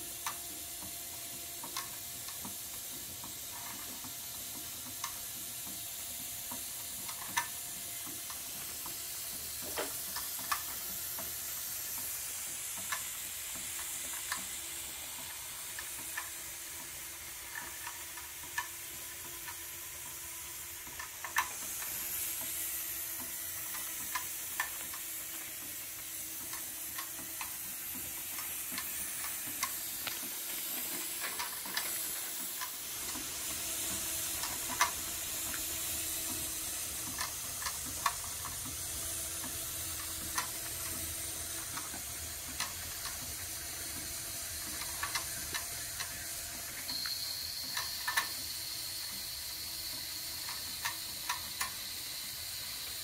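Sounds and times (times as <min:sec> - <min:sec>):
model steam engine hissing: 0:00.0 - 0:53.0.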